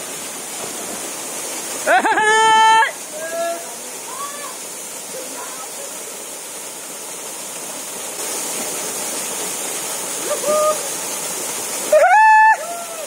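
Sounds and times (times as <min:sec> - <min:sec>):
small waterfall pouring: 0:00.0 - 0:13.0.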